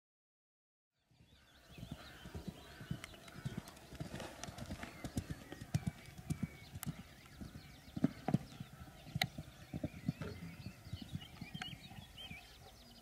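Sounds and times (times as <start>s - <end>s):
horse hoofbeats on sand: 1.8s - 12.4s.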